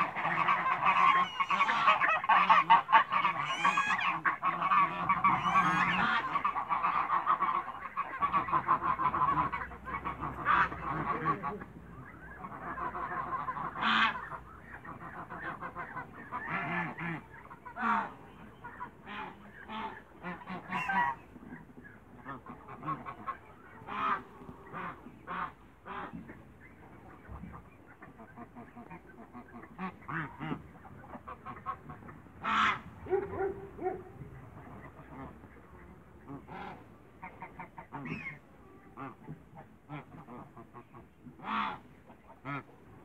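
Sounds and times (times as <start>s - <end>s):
geese honking: 0.0s - 43.0s.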